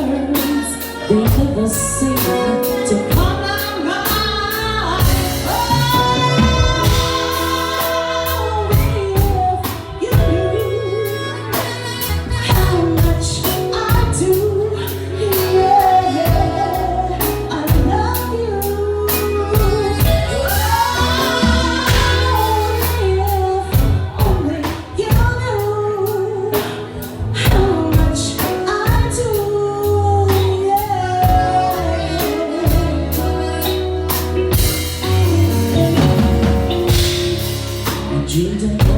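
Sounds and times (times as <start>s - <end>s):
bass guitar: 0.0s - 38.9s
drums: 0.0s - 38.9s
live band playing: 0.0s - 38.9s
woman singing: 0.0s - 38.9s.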